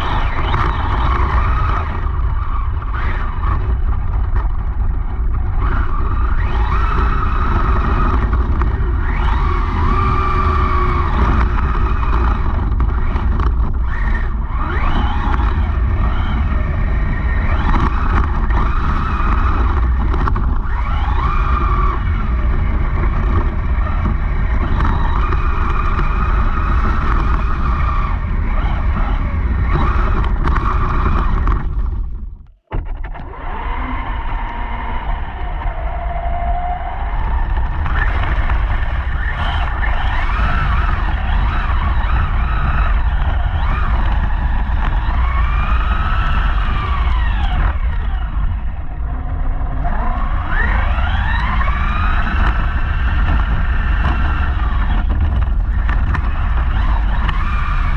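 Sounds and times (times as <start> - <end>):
heavy low rumble: 0.0 - 57.9
electric motor whining: 5.1 - 57.9.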